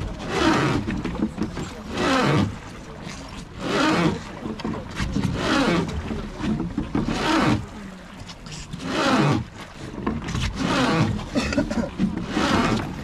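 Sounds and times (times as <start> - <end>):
oars rowing in water: 0.0 - 13.0.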